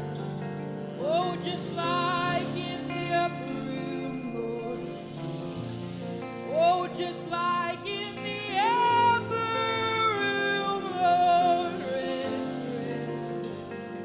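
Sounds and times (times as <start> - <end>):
person singing wordless line: 0.0 - 14.0
worship band playing: 0.0 - 14.0.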